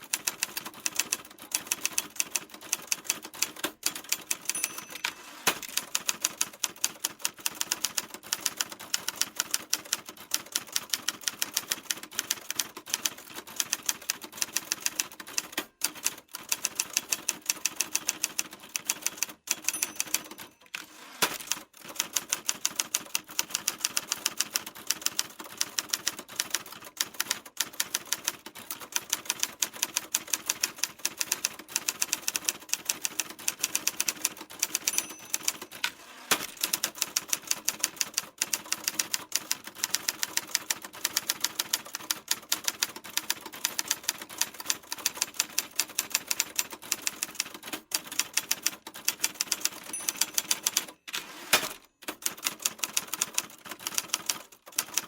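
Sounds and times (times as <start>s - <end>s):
typewriter keys clacking: 0.1s - 55.0s.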